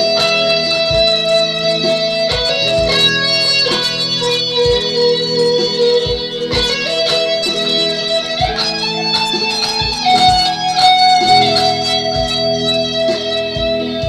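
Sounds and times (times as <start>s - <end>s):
electric guitar lead line: 0.0s - 14.0s
low thumps: 0.0s - 14.0s.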